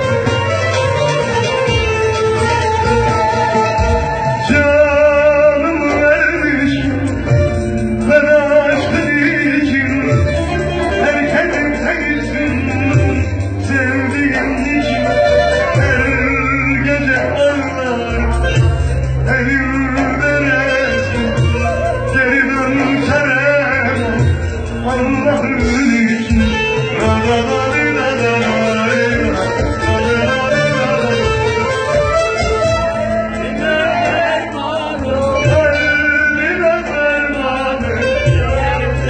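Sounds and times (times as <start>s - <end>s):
low drum beats: 0.0s - 39.0s
man singing into a microphone: 0.0s - 39.0s
stringed instruments: 0.0s - 39.0s
sustained bass: 0.0s - 39.0s.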